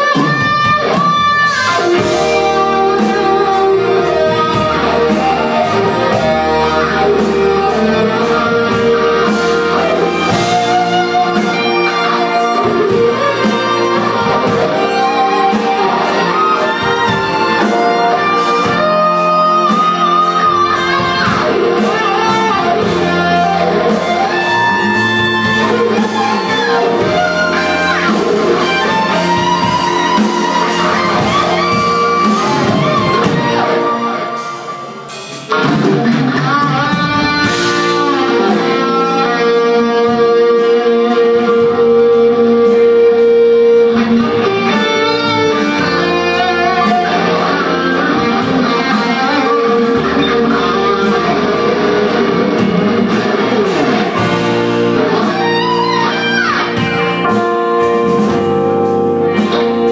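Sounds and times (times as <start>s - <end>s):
bass guitar: 0.0s - 59.9s
drums and cymbals: 0.0s - 59.9s
electric lead guitar: 0.0s - 59.9s.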